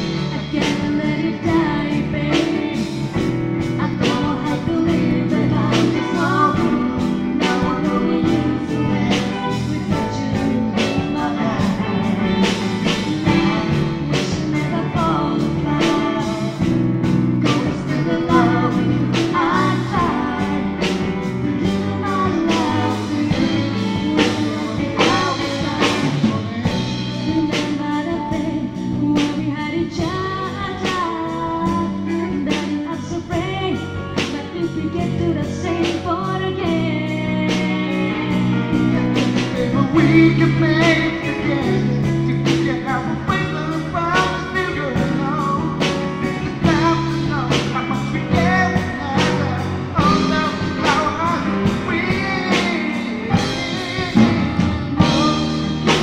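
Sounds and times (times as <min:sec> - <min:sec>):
drums steady beat: 0:00.0 - 0:56.0
live band playing pop-rock ballad: 0:00.0 - 0:56.0.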